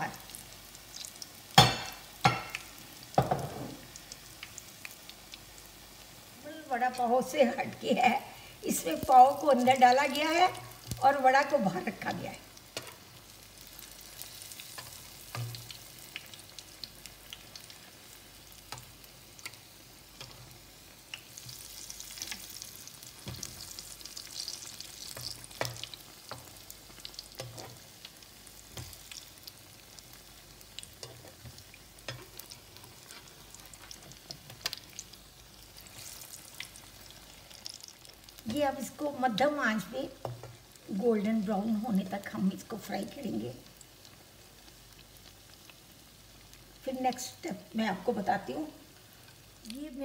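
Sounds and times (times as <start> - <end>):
spatula turning food in pan: 0.0 - 47.2
food deep-frying in hot oil: 0.0 - 50.0.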